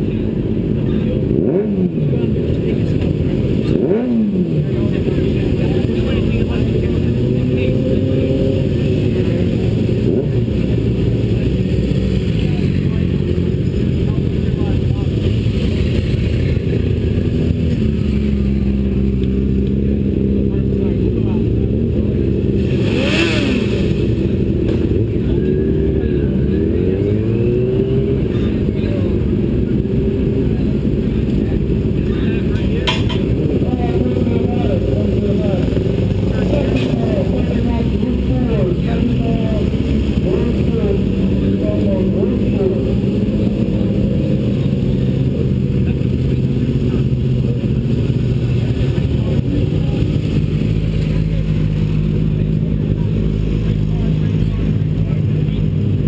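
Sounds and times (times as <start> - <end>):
wind and road noise: 0.0 - 56.0
racing car engine accelerating: 0.6 - 56.0.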